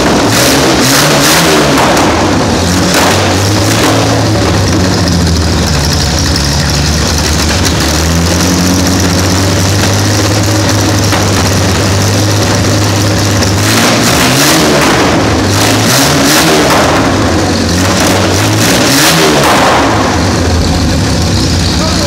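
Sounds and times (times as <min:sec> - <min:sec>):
car engine idling unevenly: 0:00.0 - 0:22.0.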